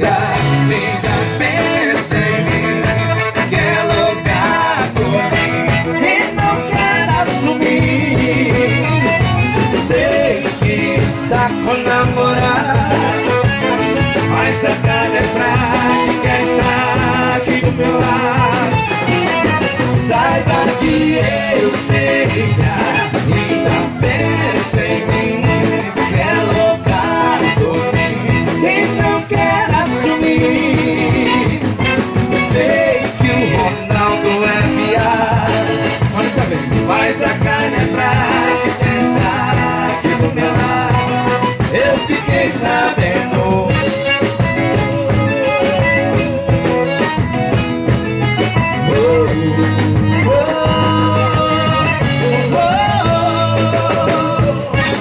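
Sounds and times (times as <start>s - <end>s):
men singing into microphones: 0.0s - 47.0s, 48.6s - 55.0s
accordion: 0.0s - 55.0s
drums: 0.0s - 55.0s
electric guitar: 0.0s - 55.0s.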